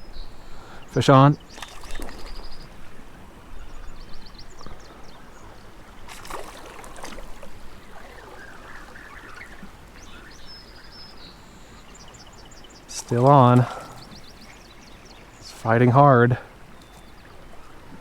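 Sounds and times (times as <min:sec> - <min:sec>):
creek running: 0:00.0 - 0:18.0.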